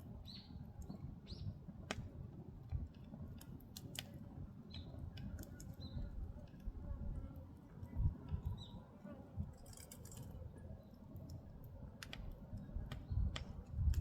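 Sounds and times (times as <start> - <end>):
firewood crackling and popping: 0.0 - 6.8, 9.4 - 14.0
low rumble of fire: 0.0 - 14.0.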